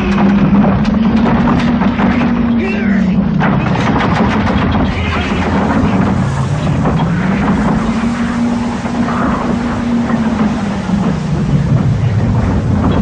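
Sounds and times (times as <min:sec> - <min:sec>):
loud rushing noise with crackles: 0:00.0 - 0:13.0
low drone: 0:00.0 - 0:13.0.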